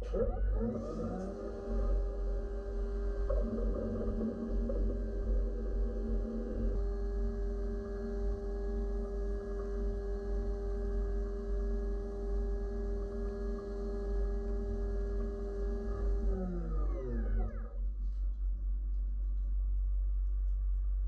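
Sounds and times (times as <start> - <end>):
mill spindle whining: 0.0 - 17.9.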